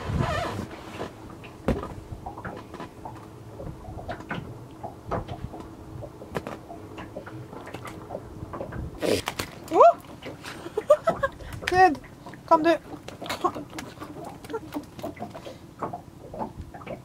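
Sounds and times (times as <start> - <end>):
faint steady hum: 0.0 - 17.0
fish and line knocking in boat: 1.1 - 17.0.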